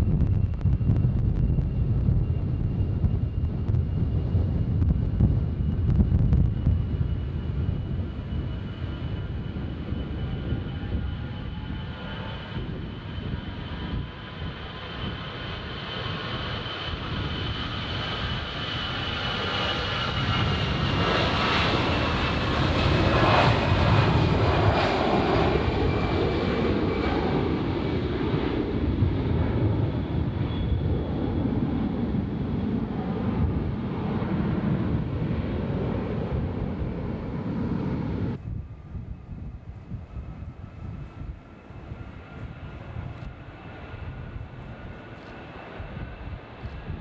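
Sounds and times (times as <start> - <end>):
airliner engines at takeoff: 0.0 - 47.0
high jet engine whine: 0.0 - 47.0.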